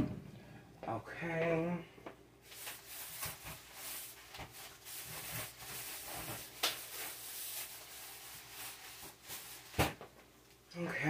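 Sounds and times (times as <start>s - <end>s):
faint hiss and hum: 0.0s - 11.0s.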